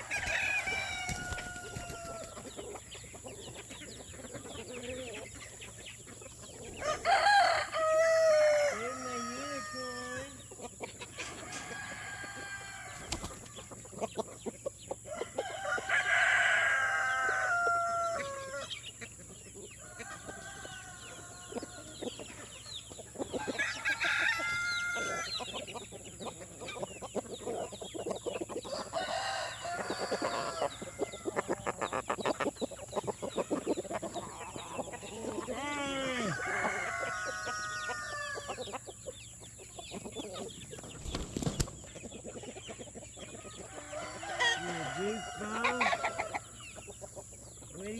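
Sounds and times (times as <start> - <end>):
hens clucking: 0.0 - 47.9
roosters crowing: 0.0 - 47.9.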